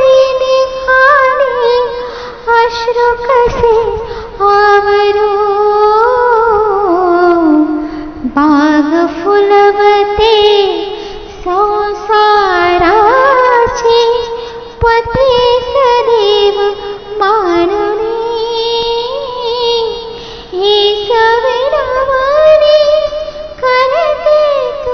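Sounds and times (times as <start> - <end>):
woman singing: 0.0 - 24.9.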